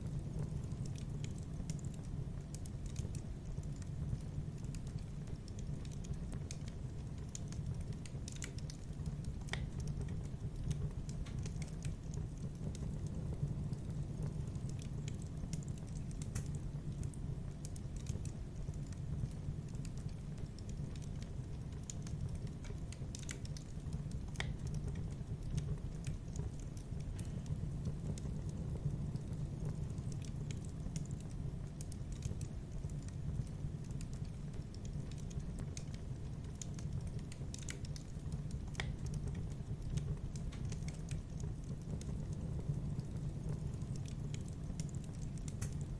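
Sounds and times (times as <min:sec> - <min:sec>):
fire crackling and popping: 0:00.0 - 0:45.9
low fire rumble: 0:00.0 - 0:45.9.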